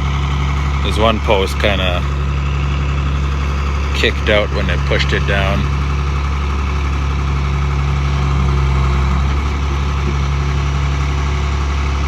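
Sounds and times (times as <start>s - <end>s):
heavy machine engine idling: 0.0s - 12.0s.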